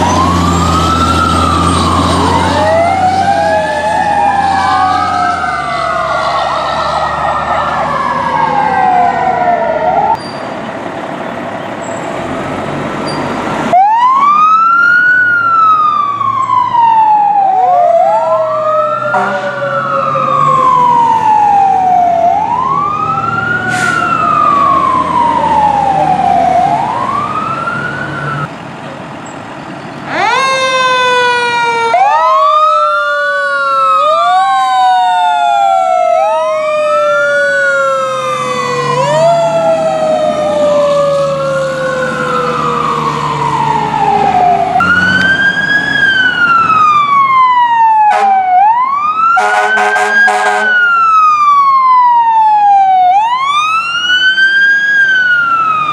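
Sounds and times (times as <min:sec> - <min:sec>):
emergency sirens wailing: 0:00.0 - 0:10.2, 0:10.8 - 0:29.2, 0:30.0 - 0:55.9
truck engines rumbling: 0:00.0 - 0:55.9.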